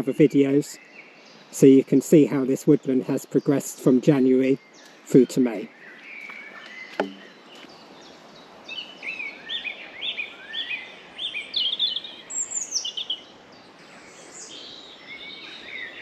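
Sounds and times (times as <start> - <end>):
songbird chirping: 0.0 - 16.0
woodland background hiss: 0.0 - 16.0.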